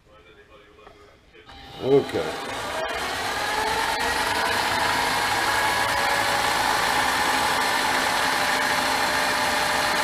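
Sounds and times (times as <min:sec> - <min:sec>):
metal lathe whine: 0:01.5 - 0:10.0.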